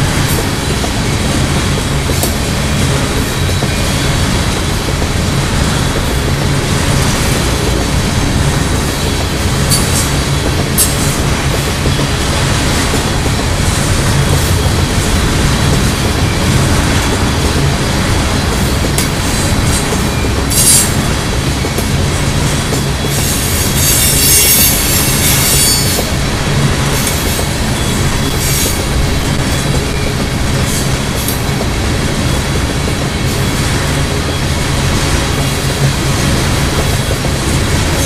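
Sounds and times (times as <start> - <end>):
train wheels clattering on rails: 0.0 - 38.0.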